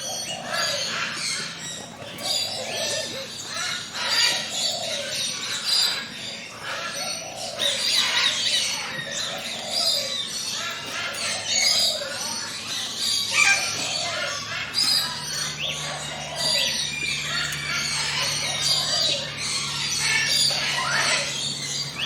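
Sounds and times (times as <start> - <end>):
forest birds chirping and trilling: 0.0 - 22.0.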